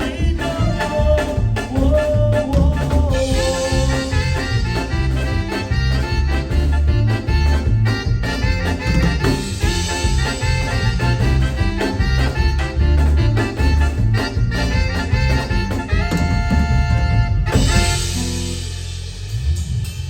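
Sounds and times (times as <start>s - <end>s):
live band playing: 0.0s - 20.0s
pulsing bass line: 0.0s - 20.0s
steady drum beat: 0.0s - 20.0s.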